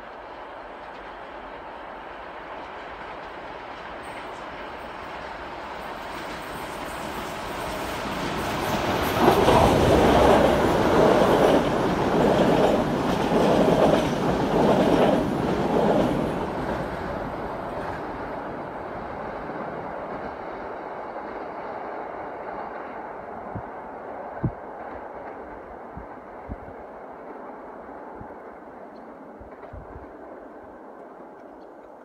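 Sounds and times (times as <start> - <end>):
passenger train passing: 0.0 - 32.0.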